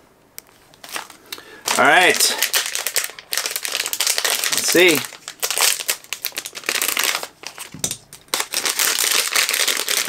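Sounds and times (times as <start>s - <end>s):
packaging wrapper crinkling: 0.8s - 10.0s.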